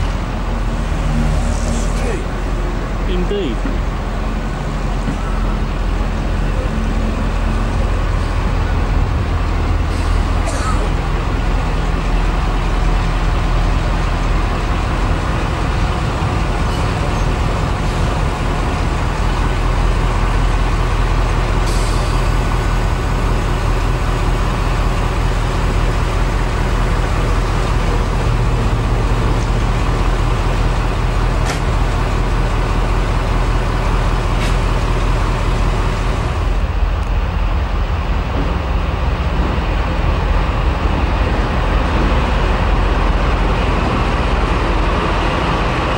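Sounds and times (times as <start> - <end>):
diesel locomotive engine throbbing: 0.0 - 45.9.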